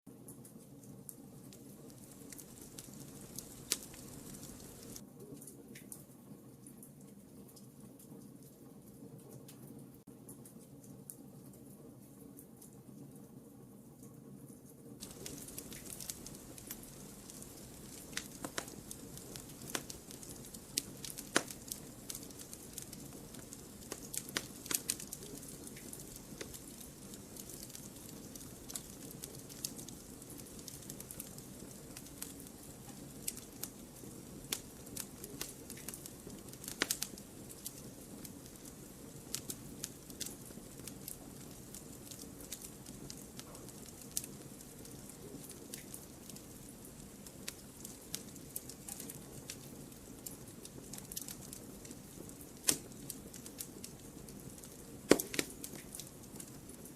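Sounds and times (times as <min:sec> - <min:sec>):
fire hissing softly: 0:00.1 - 0:56.9
fire crackling and popping: 0:00.2 - 0:06.0, 0:15.0 - 0:56.9.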